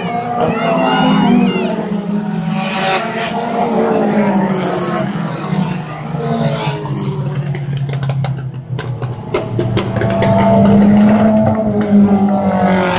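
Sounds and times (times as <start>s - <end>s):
race car engines passing: 0.0s - 12.9s.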